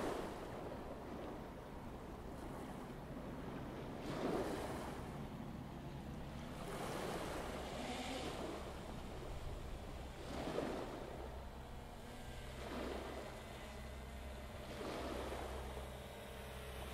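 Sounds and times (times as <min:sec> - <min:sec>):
sea waves rushing: 0:00.0 - 0:16.9
steady low rumble: 0:00.0 - 0:16.9.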